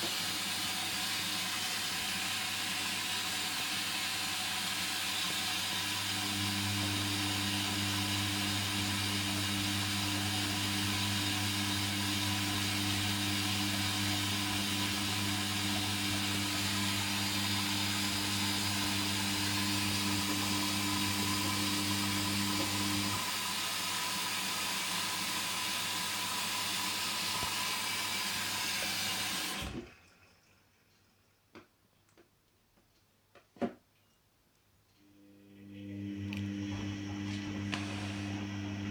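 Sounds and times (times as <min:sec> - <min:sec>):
washing machine water rushing: 0:00.0 - 0:31.2, 0:35.3 - 0:38.9.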